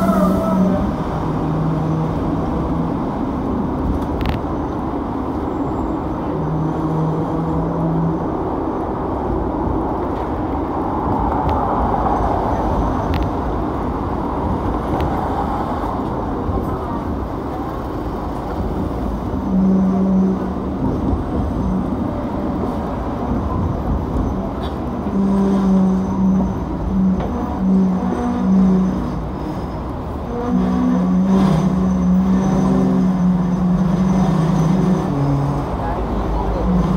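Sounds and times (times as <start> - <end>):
buses passing: 0.0 - 36.9
tram rumbling and rattling: 0.0 - 36.9.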